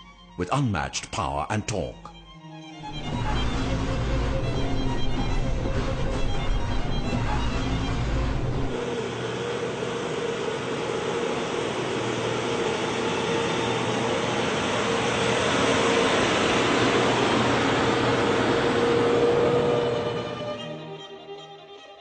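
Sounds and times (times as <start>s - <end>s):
truck engine droning with whine: 2.0s - 21.9s.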